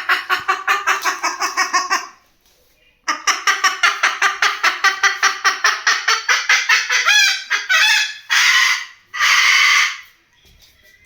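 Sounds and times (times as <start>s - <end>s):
cockatoo clucking: 0.0s - 2.2s, 3.1s - 10.2s
cockatoo squawking: 0.0s - 2.2s, 3.1s - 10.2s.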